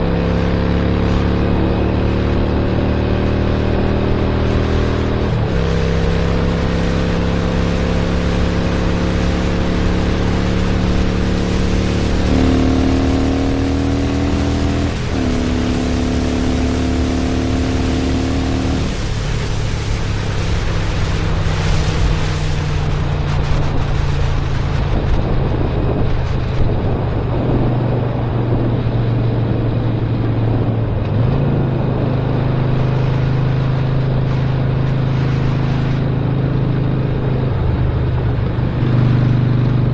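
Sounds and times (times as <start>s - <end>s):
motorcycle engine running: 0.0s - 39.9s
rushing wind noise: 0.0s - 39.9s.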